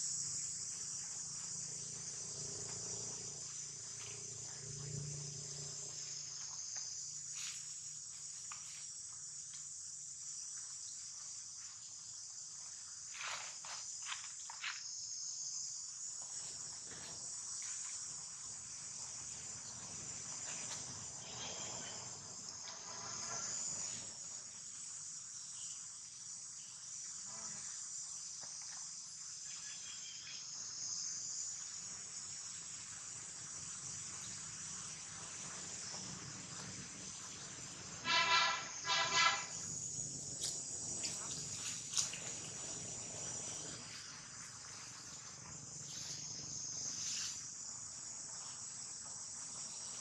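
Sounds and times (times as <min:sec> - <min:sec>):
high-pitched insect chorus: 0:00.0 - 0:50.0.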